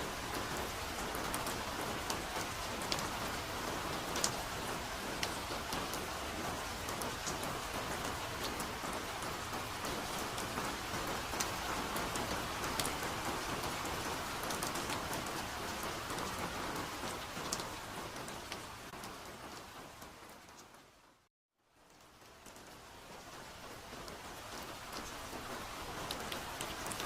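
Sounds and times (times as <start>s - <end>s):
steady rainfall hiss: 0.0s - 27.0s.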